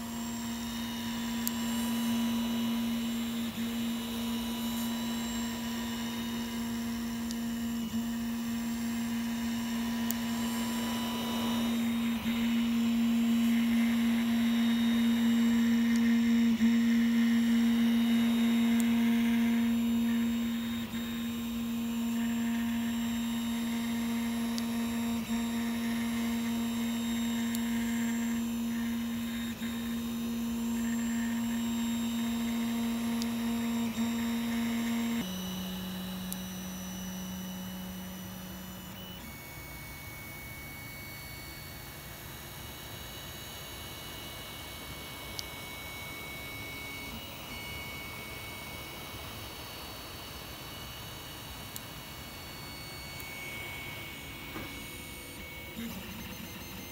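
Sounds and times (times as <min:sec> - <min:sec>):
printer whine: 0:00.0 - 0:56.9.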